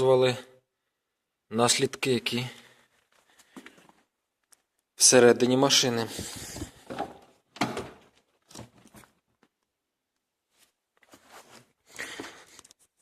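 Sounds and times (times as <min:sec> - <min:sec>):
rustling of person moving: 0:02.2 - 0:13.0.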